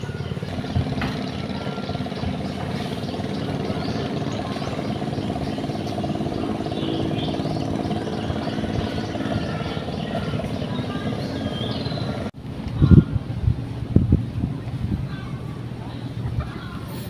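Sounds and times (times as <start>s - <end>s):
birds chirping: 0.0s - 13.1s, 15.0s - 17.0s
steady engine hum: 0.0s - 17.0s.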